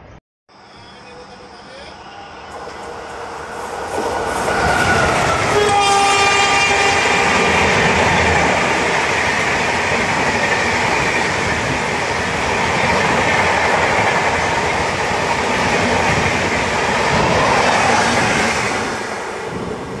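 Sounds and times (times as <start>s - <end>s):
train coaches rushing past: 0.6s - 20.0s.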